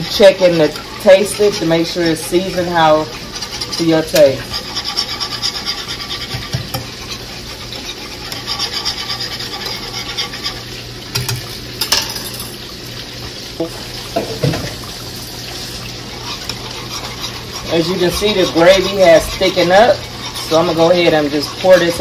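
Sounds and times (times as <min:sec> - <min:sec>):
whisk scraping metal skillet: 0:00.0 - 0:12.6, 0:13.6 - 0:22.0.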